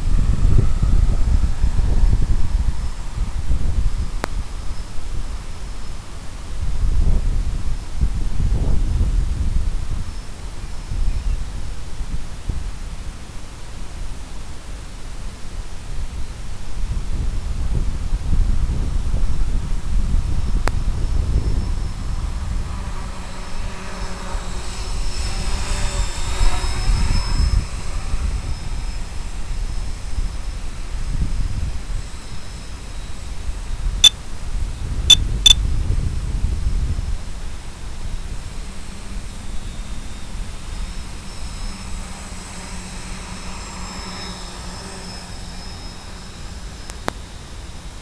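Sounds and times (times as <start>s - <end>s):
propeller aircraft droning: 0.0s - 16.6s, 19.0s - 33.0s, 38.6s - 48.0s
wind rumble on microphone: 0.0s - 23.8s, 24.4s - 42.4s.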